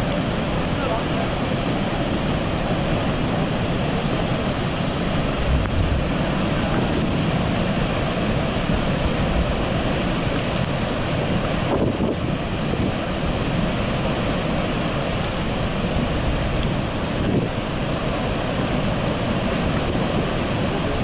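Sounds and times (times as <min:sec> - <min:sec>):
churning river: 0:00.0 - 0:21.0
waterfall roar: 0:00.0 - 0:21.0
wind buffeting microphone: 0:00.0 - 0:21.0.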